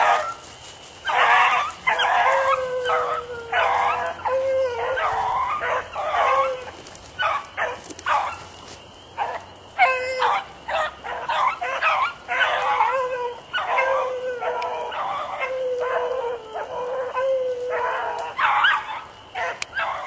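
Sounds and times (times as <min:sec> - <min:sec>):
beagle baying: 0:01.0 - 0:08.5, 0:09.2 - 0:20.0.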